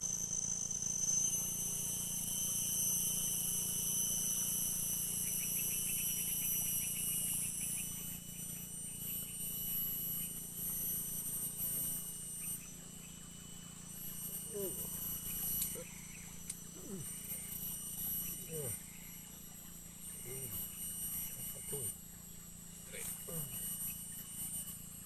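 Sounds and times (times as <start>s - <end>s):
insects chirring: 0.0s - 25.0s
rapid pulsed insect trill: 0.0s - 25.0s.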